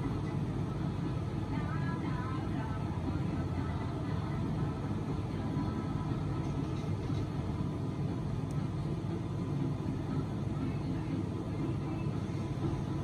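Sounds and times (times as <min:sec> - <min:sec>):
low ambient rumble: 0:00.0 - 0:13.0.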